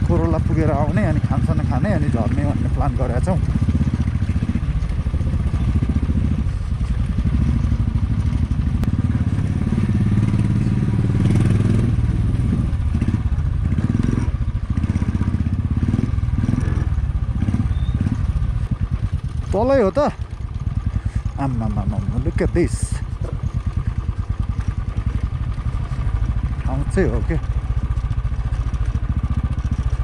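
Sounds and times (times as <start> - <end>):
motorcycle engine throbbing: 0.0 - 30.0.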